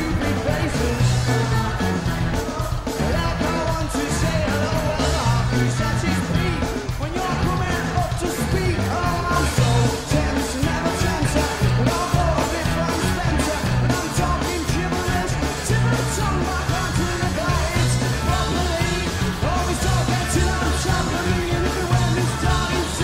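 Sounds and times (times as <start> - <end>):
man singing: 0.0 - 23.0
rock band playing: 0.0 - 23.0.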